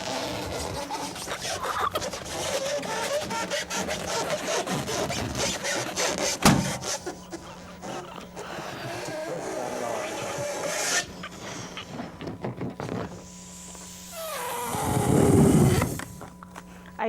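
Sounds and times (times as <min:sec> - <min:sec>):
balloon popping: 0:00.0 - 0:16.2
rubber balloon squeaking: 0:00.0 - 0:16.2.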